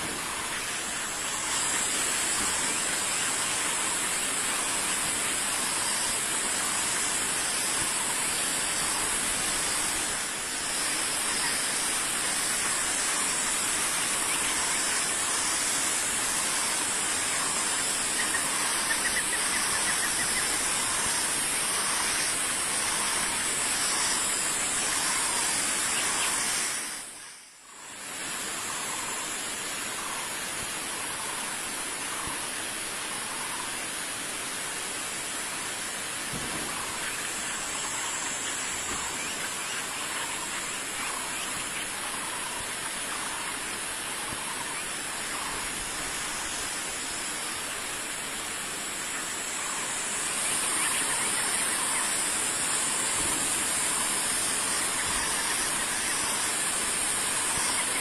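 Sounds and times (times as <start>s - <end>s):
bird calls: 0.0s - 27.4s, 36.0s - 58.0s
loud hiss: 0.0s - 58.0s.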